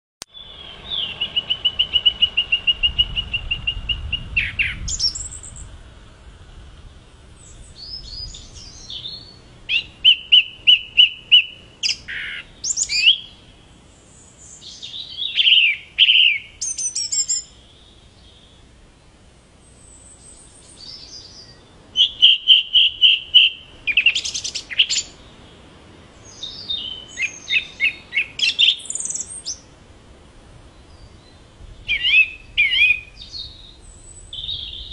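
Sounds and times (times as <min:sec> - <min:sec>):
song thrush singing: 0:00.2 - 0:34.9.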